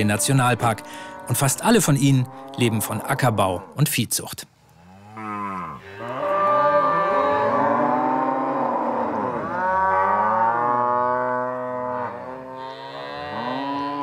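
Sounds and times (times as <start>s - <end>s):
cattle mooing: 0.0s - 3.8s, 4.8s - 14.0s.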